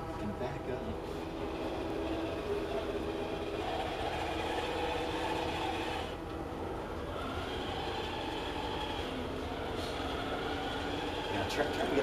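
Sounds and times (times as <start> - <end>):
robot motors whirring: 1.3 - 6.2, 7.0 - 12.0.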